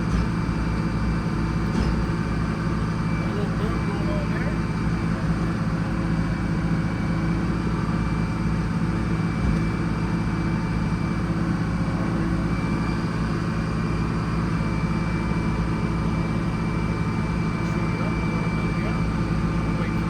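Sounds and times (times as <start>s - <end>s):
sawmill engine droning: 0.0s - 20.0s.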